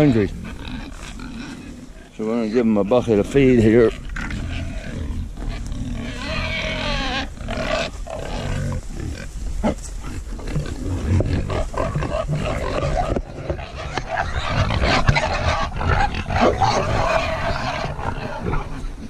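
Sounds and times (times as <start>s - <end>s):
pigs grunting and calling: 0.0s - 19.0s.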